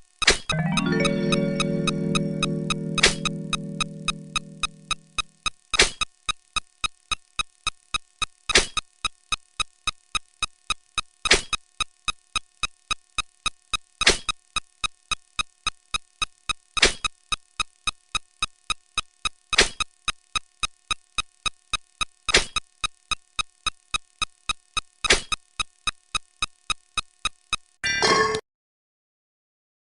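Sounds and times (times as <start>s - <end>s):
short electronic ticks: 0.1s - 27.8s.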